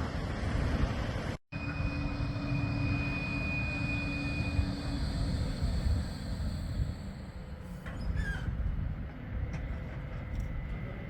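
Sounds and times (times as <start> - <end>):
tram low rumble: 0.0 - 11.0
tram high whine: 1.0 - 11.0.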